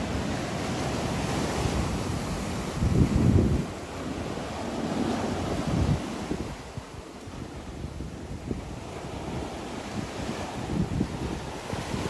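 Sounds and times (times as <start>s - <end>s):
sea waves washing in: 0.0s - 12.0s
wind on microphone: 0.0s - 12.0s.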